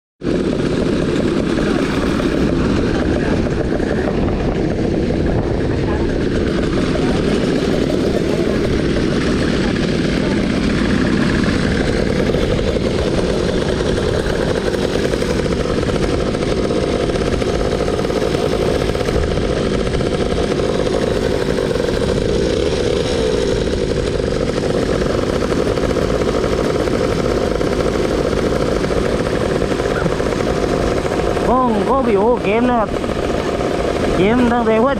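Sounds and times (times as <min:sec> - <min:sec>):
motor scooter engine running: 0:00.2 - 0:34.9.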